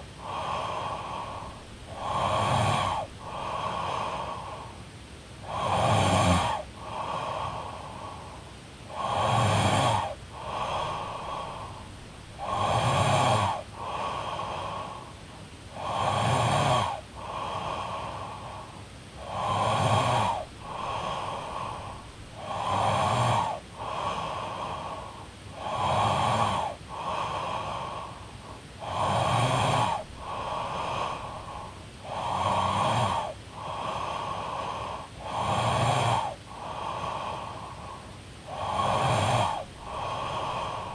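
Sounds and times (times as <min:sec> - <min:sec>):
woman snoring: 0:00.0 - 0:04.7, 0:05.4 - 0:08.2, 0:08.9 - 0:28.2, 0:28.8 - 0:40.9.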